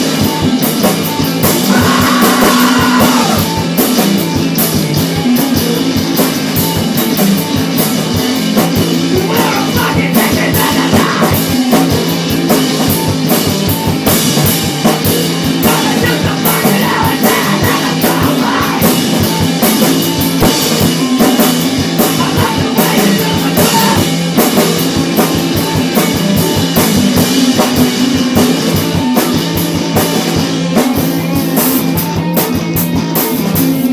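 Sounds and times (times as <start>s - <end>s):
rock band playing funk: 0.0s - 33.9s.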